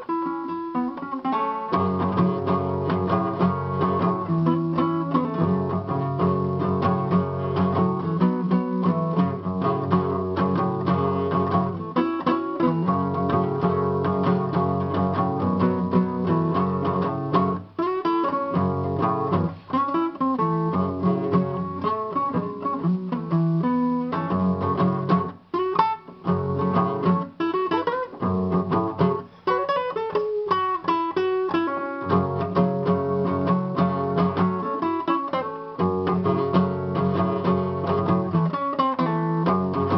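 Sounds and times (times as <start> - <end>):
guitar strummed and picked: 0.0 - 39.9.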